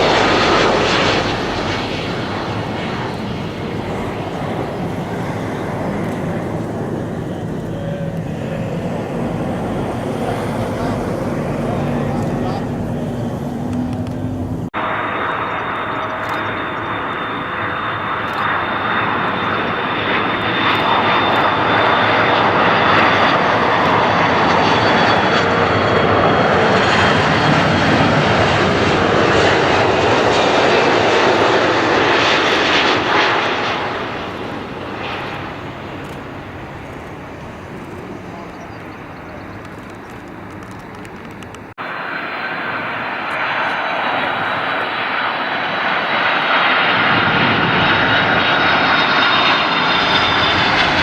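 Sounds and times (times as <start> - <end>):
airliner engines passing: 0.0 - 51.0
high engine whine: 0.0 - 51.0.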